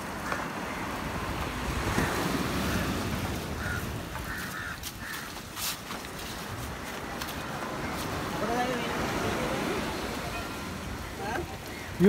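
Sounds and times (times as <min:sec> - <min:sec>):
surf rushing: 0:00.0 - 0:12.0.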